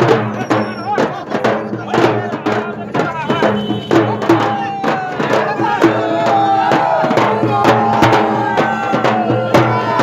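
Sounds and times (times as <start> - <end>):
drum beaten in steady rhythm: 0.0 - 10.0.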